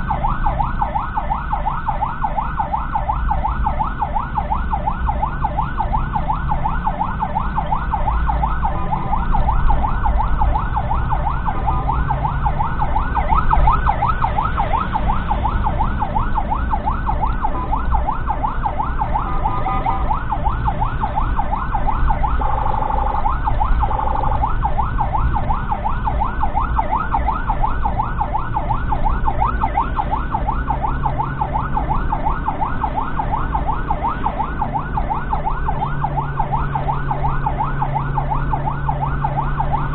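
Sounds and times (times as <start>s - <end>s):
ambulance siren yelping: 0.0s - 39.9s
vehicle engine and road rumble: 0.0s - 39.9s.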